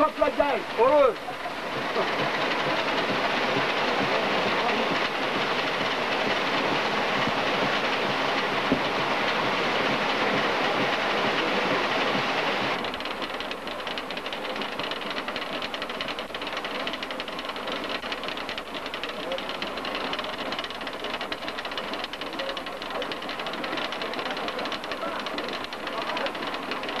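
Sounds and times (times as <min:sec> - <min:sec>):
stone flour mill clattering: 0:00.0 - 0:27.0.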